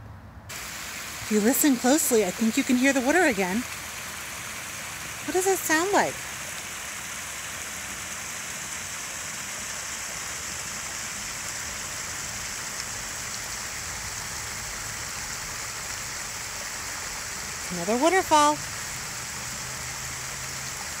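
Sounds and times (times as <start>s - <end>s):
waterfall rushing: 0.5s - 21.0s.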